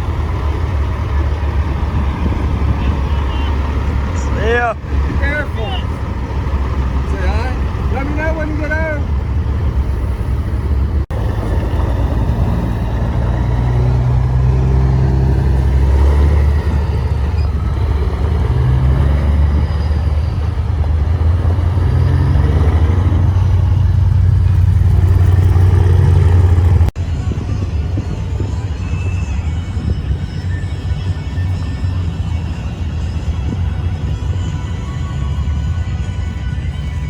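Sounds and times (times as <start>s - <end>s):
heavy truck engine droning: 0.0s - 37.0s.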